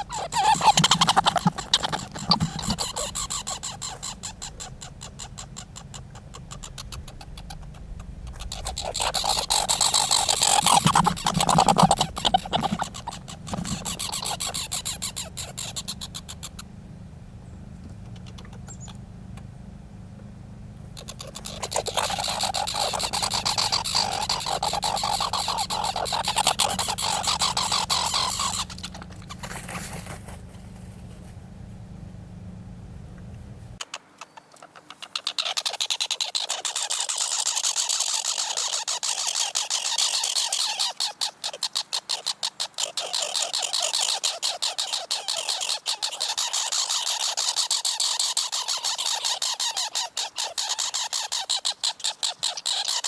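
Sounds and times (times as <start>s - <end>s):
squirrels chattering: 0.0s - 53.0s.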